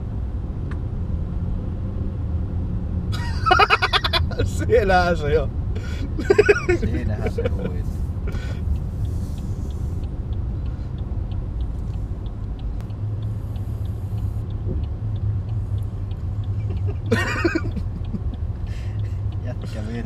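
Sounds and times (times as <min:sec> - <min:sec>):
diesel engine low rumble: 0:00.0 - 0:20.0
light regular ticking: 0:03.2 - 0:20.0.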